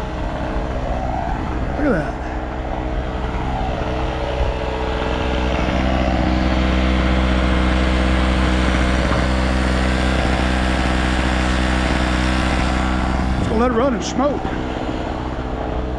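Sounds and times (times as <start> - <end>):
generator engine running: 0.0 - 15.9.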